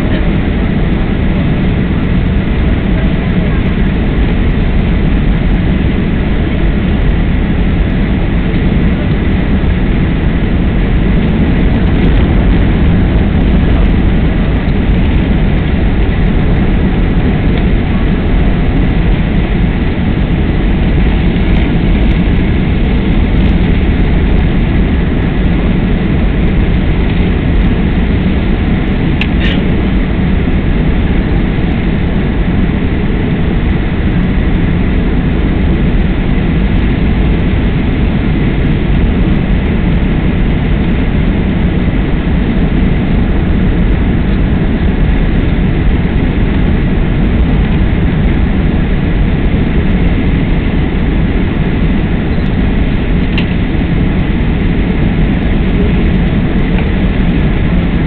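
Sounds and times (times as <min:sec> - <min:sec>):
jet engines droning: 0:00.0 - 0:58.0.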